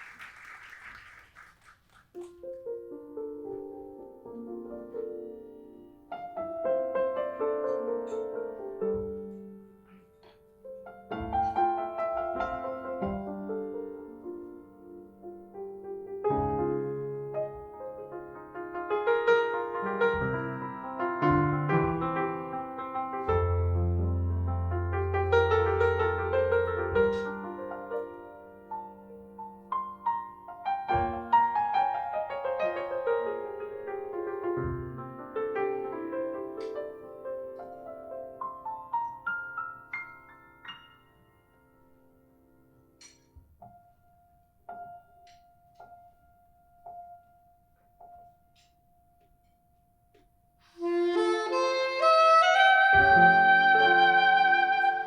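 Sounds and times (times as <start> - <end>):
slow jazz piano: 1.6 - 55.0.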